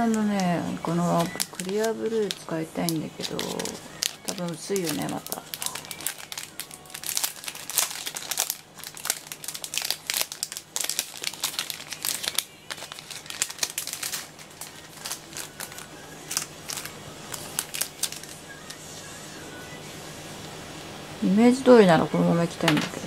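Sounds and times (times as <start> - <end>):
plastic packaging crinkling: 0.0 - 18.8.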